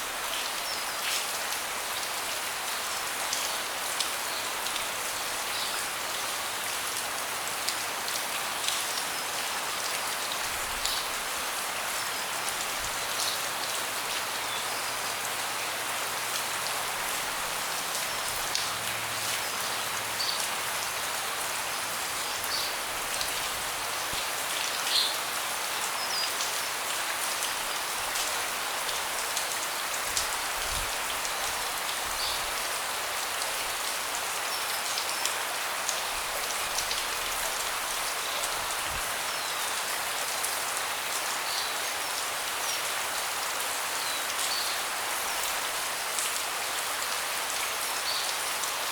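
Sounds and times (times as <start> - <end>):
rain falling on a deck: 0.0 - 48.9.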